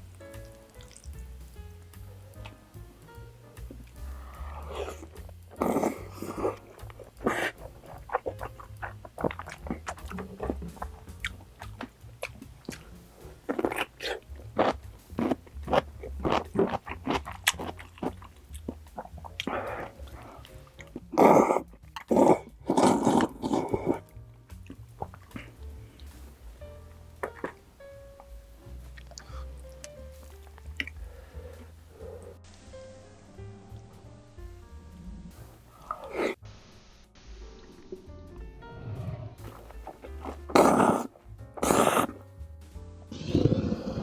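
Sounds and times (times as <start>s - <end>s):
crunching and chewing food: 0.0s - 32.4s, 35.3s - 36.4s, 39.4s - 42.3s, 43.1s - 44.0s.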